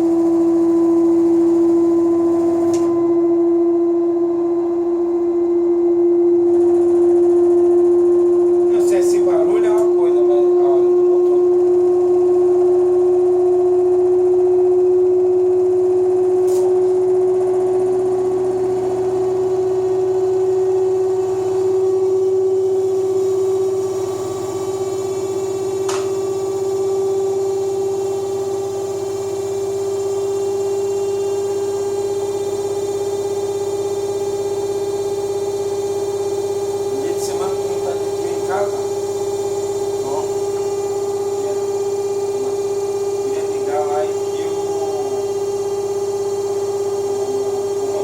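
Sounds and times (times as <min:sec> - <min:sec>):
washer-dryer spin whine: 0:00.0 - 0:48.0.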